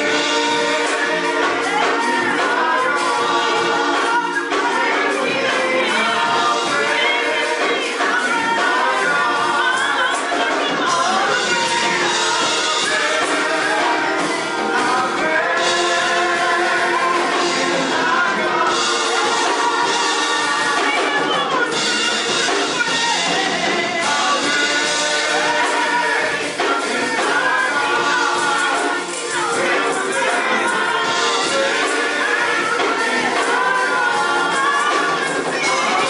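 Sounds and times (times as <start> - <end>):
group singing gospel: 0.0 - 36.0
live band with drums: 0.0 - 36.0.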